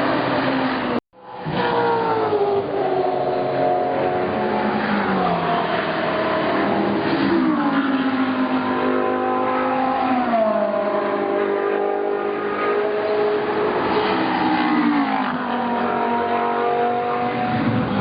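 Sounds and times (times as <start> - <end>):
race car engines downshifting: 0.0 - 18.0.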